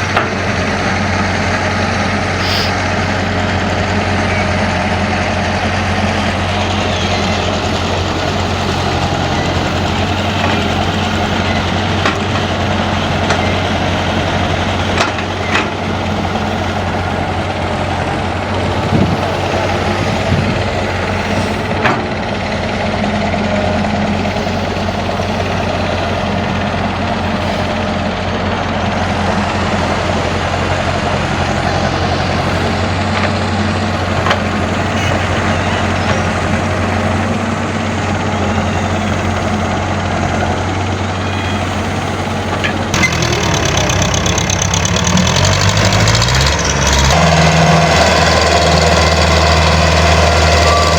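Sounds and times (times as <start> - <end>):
diesel engines running: 0.0 - 50.9.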